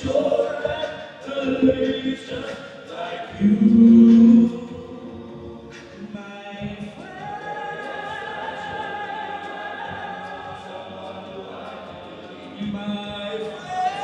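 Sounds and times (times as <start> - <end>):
male a cappella group singing: 0.0 - 14.0.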